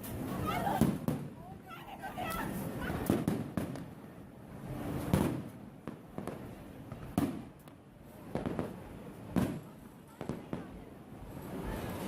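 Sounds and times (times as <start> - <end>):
fireworks exploding: 0.0 - 12.0.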